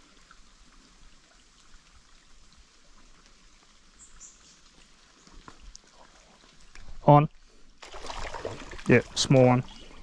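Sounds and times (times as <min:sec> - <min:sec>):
creek trickling: 0:00.0 - 0:10.0.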